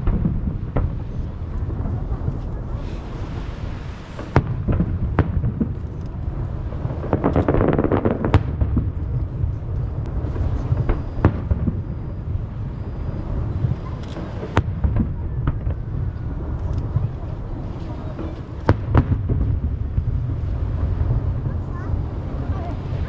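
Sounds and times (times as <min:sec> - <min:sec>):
fireworks booming: 0:00.0 - 0:23.0
fireworks crackling: 0:00.0 - 0:23.0
sharp firework reports: 0:00.0 - 0:23.0.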